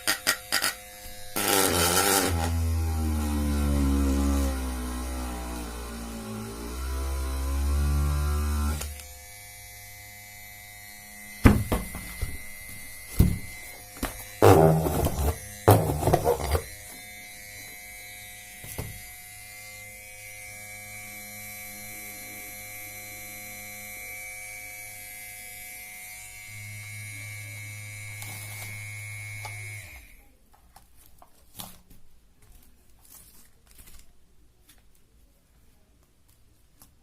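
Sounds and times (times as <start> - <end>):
mini drill motor whining: 0.0 - 30.2.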